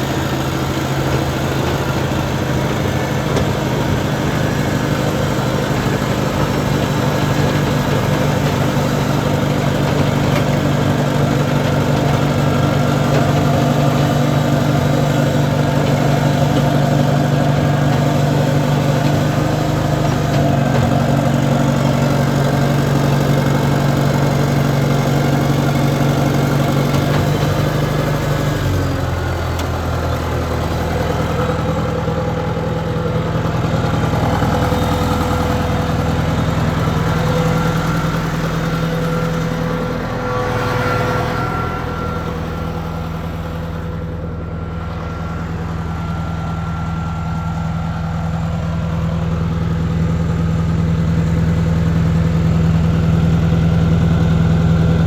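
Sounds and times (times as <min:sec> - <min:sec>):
track loader engine running: 0:00.0 - 0:55.0.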